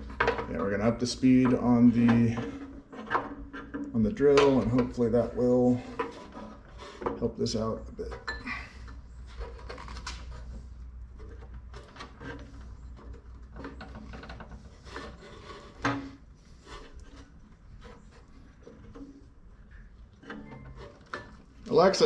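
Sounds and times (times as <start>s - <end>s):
drill press belts scraping: 0.0s - 7.7s, 8.5s - 22.0s.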